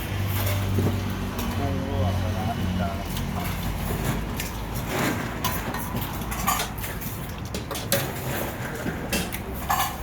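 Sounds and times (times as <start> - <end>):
utensils and containers clinking: 0.0 - 1.8, 3.0 - 10.0.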